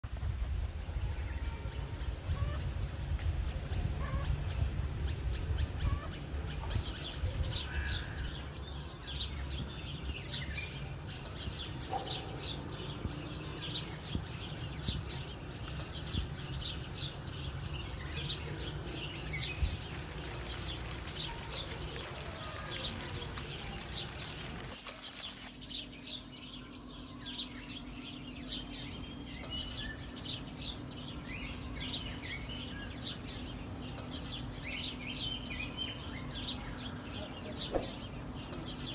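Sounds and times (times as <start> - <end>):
low outdoor rumble: 0.0 - 38.9
small birds chirping: 0.6 - 38.9.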